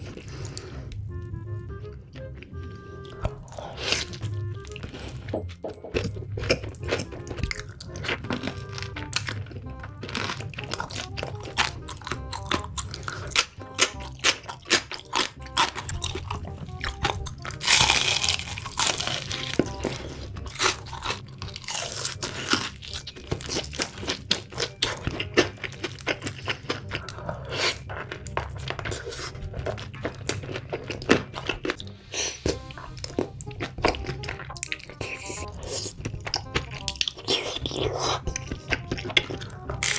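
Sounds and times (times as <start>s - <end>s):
background music: 0.0s - 39.9s
crunching and chewing fried chicken: 0.0s - 39.9s.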